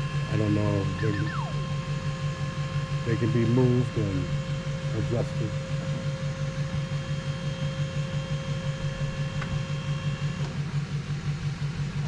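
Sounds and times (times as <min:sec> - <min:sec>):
high whine: 0:00.0 - 0:12.0
hydraulic pump pulsing hum: 0:00.0 - 0:12.0.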